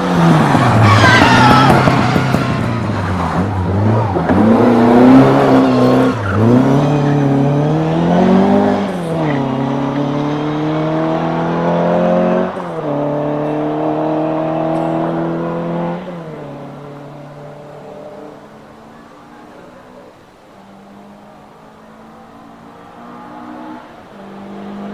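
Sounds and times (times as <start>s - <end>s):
rally car engine accelerating: 0.0s - 24.9s.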